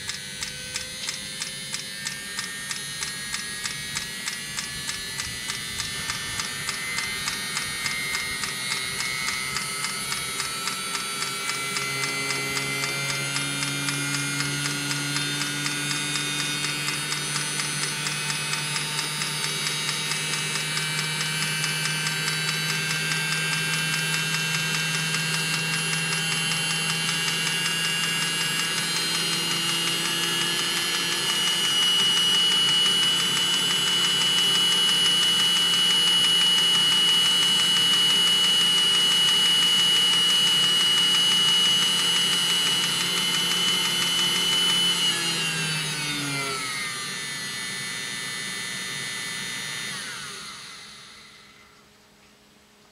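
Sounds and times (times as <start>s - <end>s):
heater blower high whine: 0.0s - 52.9s.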